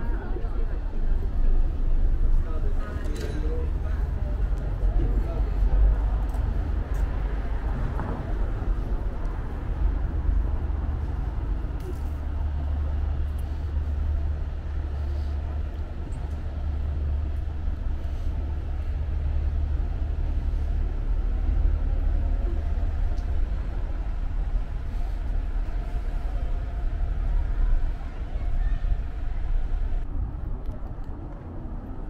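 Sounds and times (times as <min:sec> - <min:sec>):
faint voices of passers-by: 0:00.0 - 0:32.0
rumble of passing cars: 0:00.0 - 0:32.0.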